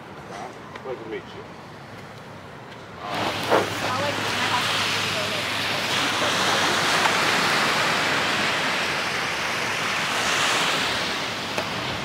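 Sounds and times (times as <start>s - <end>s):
ocean surf on sandy beach: 0.0s - 12.0s.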